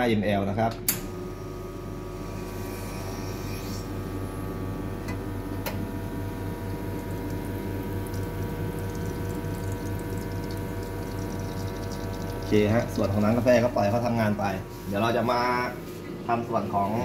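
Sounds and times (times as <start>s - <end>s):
espresso machine pump humming: 1.1s - 17.0s.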